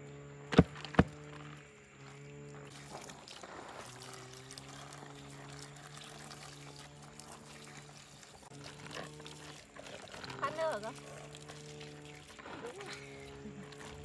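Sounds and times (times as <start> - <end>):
water running from a hose: 1.0 - 14.0
water splashing onto fruit: 2.6 - 14.0.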